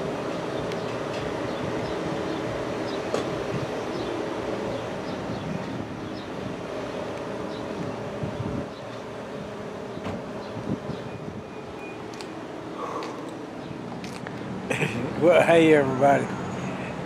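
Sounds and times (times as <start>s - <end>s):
mechanical drone with low hum: 0.0s - 15.3s.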